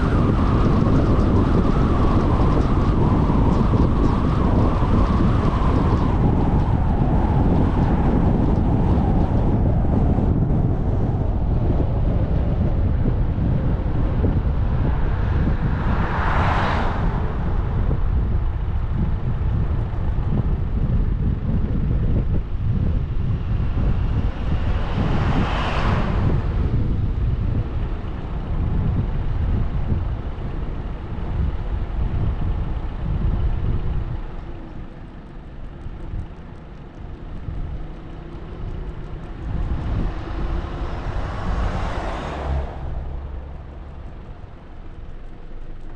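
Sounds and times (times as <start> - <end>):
car road and wind noise: 0.0 - 45.9.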